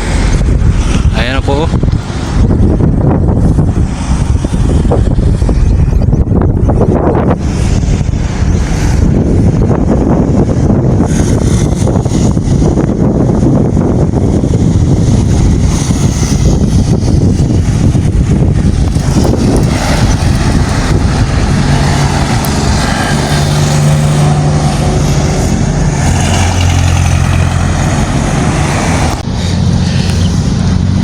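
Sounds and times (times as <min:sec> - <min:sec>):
vehicle engine running: 0:00.0 - 0:31.0
wind noise on microphone: 0:00.0 - 0:31.0.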